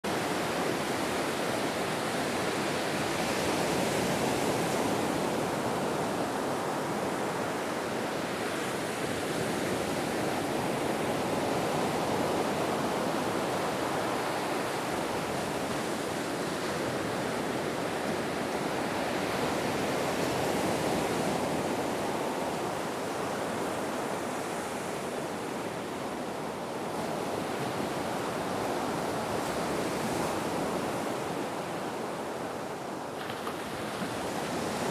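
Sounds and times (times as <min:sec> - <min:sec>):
ocean waves washing onto shore: 0:00.1 - 0:34.9.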